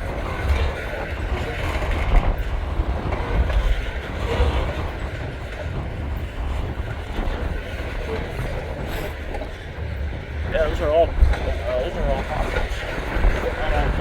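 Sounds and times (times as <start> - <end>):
freight train rolling on rails: 0.0 - 14.0
wind buffeting microphone: 0.0 - 14.0.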